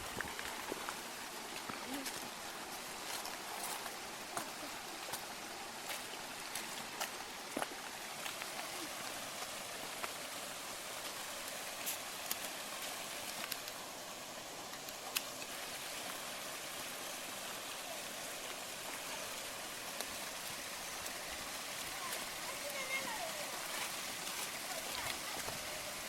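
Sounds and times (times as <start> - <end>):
running water hissing: 0.0 - 26.0.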